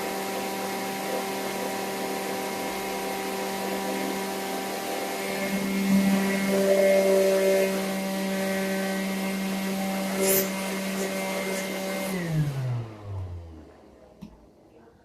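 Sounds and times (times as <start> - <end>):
vacuum cleaner motor humming: 0.0 - 13.9.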